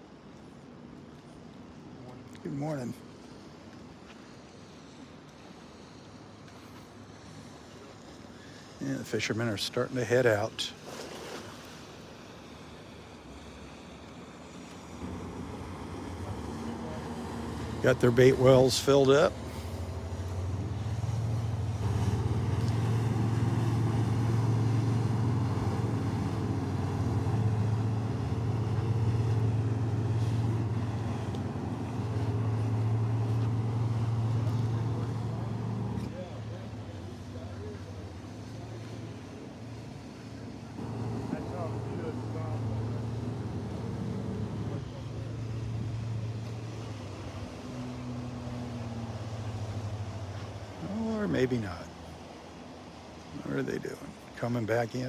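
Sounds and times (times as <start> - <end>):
boat outboard engines humming: 0.0 - 55.0.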